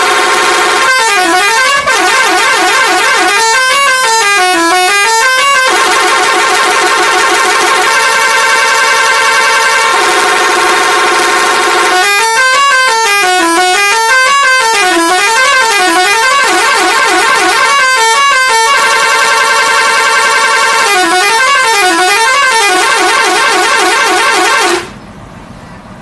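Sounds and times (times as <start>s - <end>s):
musical multi-tone bus horn: 0.0s - 25.1s
vehicle noise: 0.0s - 26.0s.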